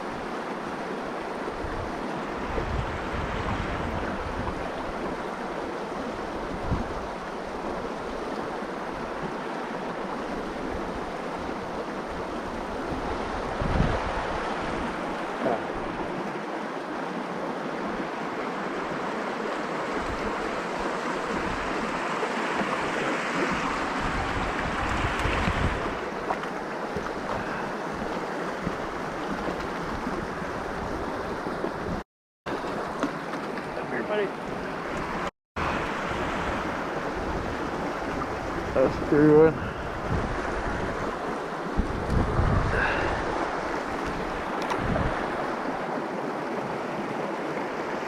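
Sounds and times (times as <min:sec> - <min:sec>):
river flowing over rocks: 0:00.0 - 0:48.0.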